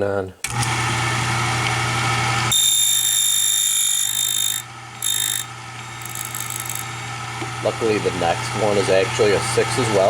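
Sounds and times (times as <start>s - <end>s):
cutter whining on key blank: 0.5s - 10.0s
key cutting machine motor humming: 0.5s - 10.0s.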